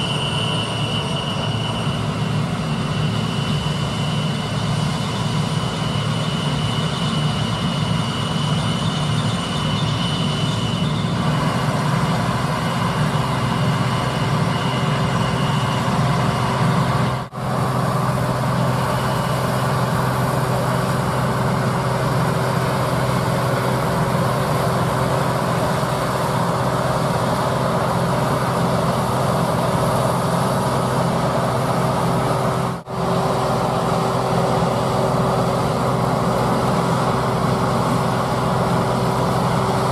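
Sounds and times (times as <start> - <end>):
diesel farm machinery droning: 0.0 - 39.9.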